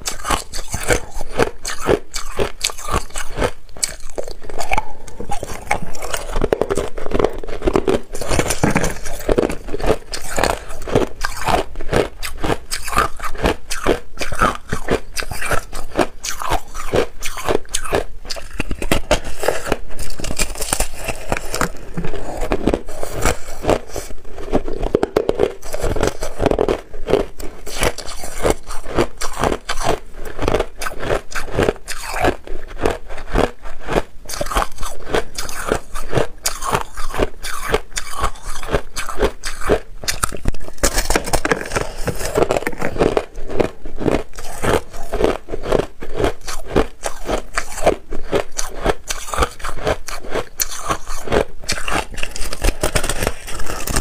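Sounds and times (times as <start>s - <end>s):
person crunching ice: 0.0s - 54.0s.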